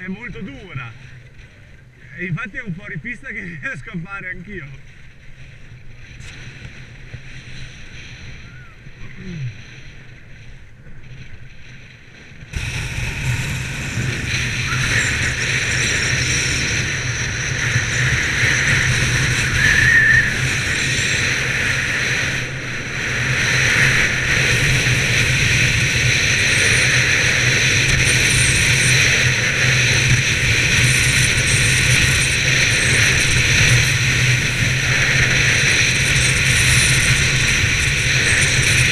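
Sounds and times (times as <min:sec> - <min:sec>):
skis scraping over snow: 0:00.0 - 0:38.9
wind on microphone: 0:04.7 - 0:38.9.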